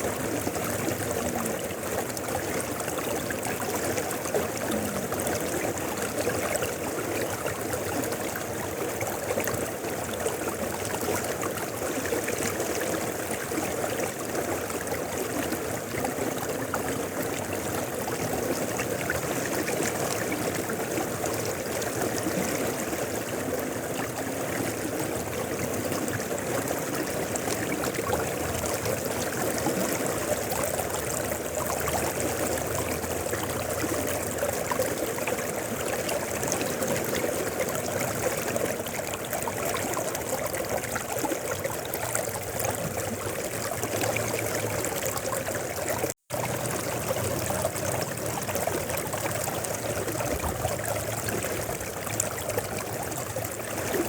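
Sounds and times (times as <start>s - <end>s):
river running over rocks: 0.0s - 54.0s.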